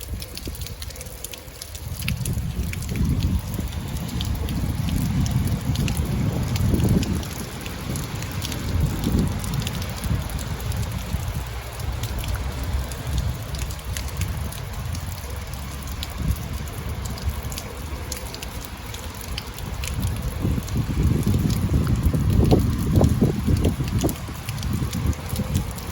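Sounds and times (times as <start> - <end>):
raindrops ticking: 0.0 - 25.9
wind on microphone: 0.0 - 25.9.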